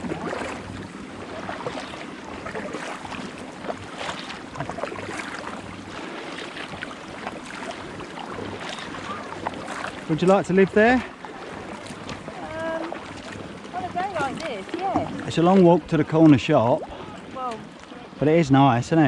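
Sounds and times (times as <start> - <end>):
kayak paddles splashing in water: 0.0 - 18.4.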